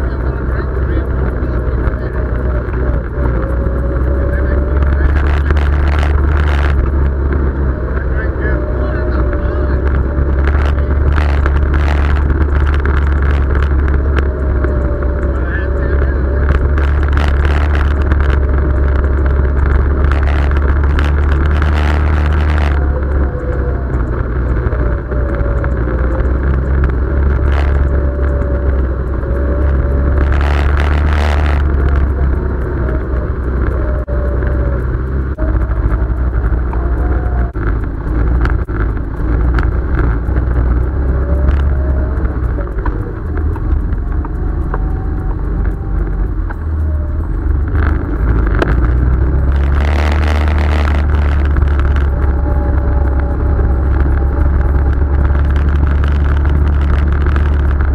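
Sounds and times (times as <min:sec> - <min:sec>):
utility vehicle engine running: 0:00.0 - 0:57.9.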